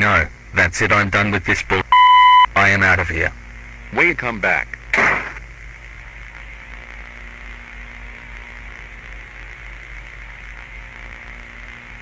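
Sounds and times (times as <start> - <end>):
low mains hum: 0.0 - 12.0
static hiss: 0.0 - 12.0.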